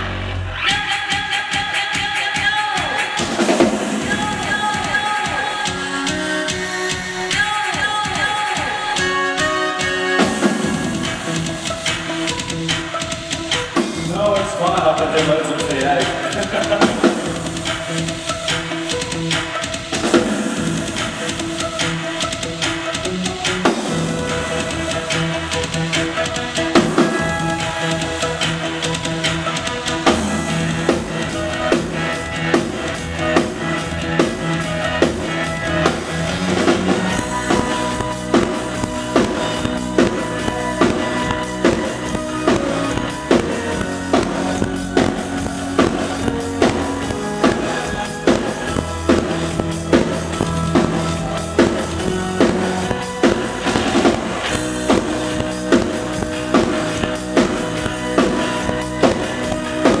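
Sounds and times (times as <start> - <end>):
bass: 0.0 - 60.0
drum kit beat: 0.6 - 60.0.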